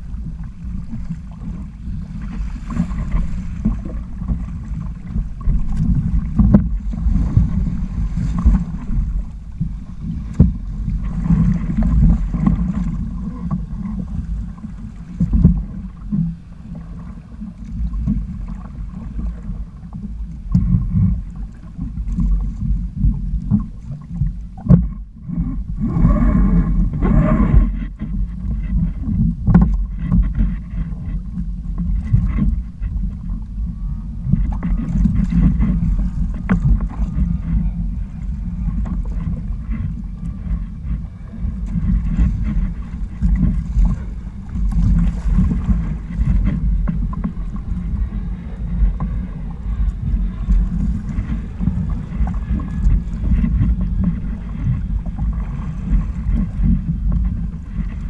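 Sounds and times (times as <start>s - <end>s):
water splashing along hulls: 0.0s - 58.0s
wind buffeting microphone: 0.0s - 58.0s.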